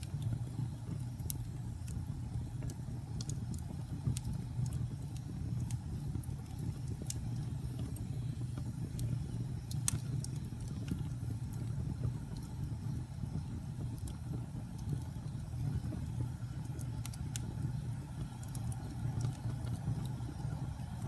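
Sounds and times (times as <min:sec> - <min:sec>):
fire crackles and pops: 0:00.0 - 0:21.0
rumble of flames: 0:00.0 - 0:21.0.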